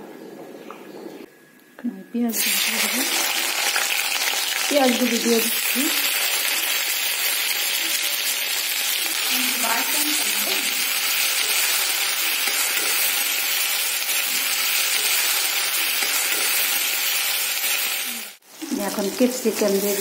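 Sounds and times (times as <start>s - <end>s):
onions sizzling in hot oil: 2.3s - 20.0s.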